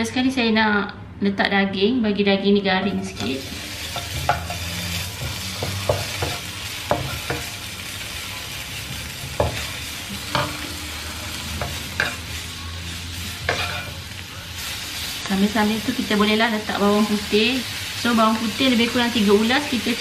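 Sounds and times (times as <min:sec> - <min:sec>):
meat sizzling in a wok: 0:03.2 - 0:20.0.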